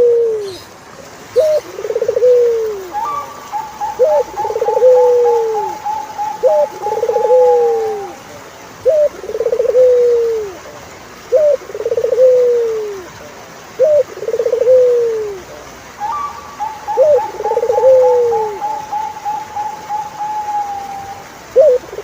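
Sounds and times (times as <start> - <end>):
turtle dove cooing: 0.0 - 0.7, 1.3 - 22.0.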